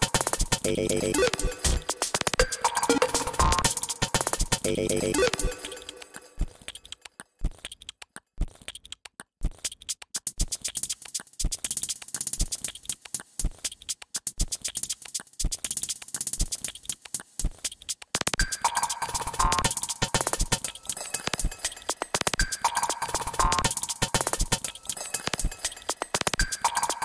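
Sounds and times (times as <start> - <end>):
chopped breakbeat drums: 0.0 - 6.6, 9.4 - 27.0.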